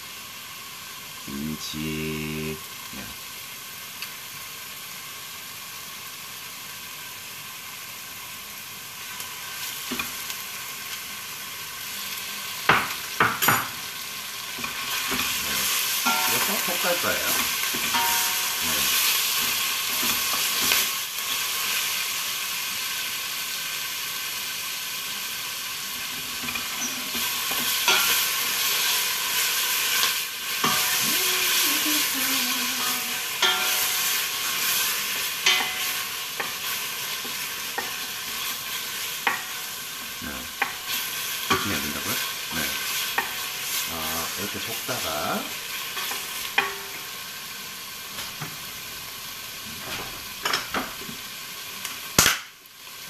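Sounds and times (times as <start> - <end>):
food sizzling in oil: 0.0 - 53.0.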